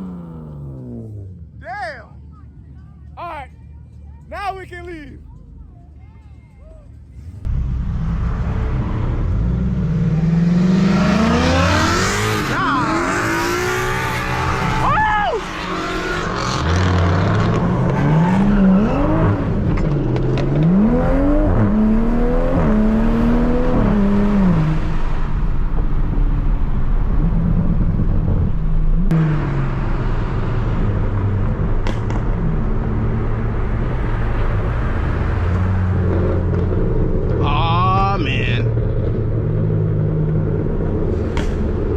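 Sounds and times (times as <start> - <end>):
car engine accelerating: 0.0 - 1.6, 5.2 - 41.9.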